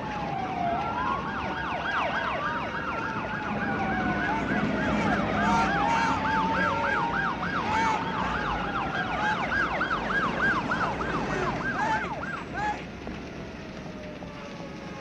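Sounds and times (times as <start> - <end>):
fire engine sirens yelping: 0.0 - 15.0
wailing siren: 0.0 - 15.0.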